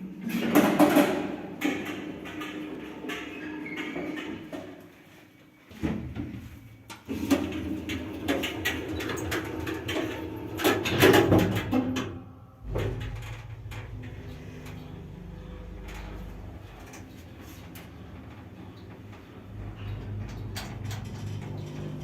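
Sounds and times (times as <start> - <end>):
elevator doors clattering: 0.0 - 4.9, 5.8 - 22.0
elevator low hum: 0.0 - 22.0.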